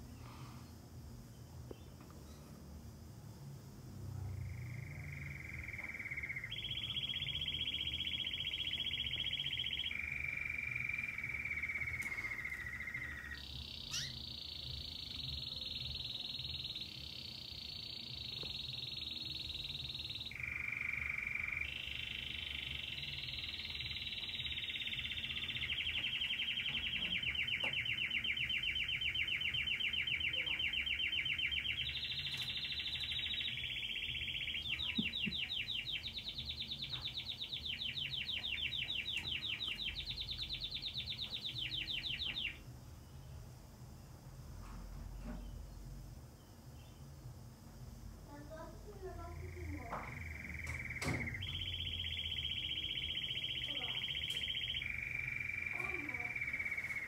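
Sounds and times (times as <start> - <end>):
canary singing trills: 4.1 - 43.4, 48.3 - 57.0.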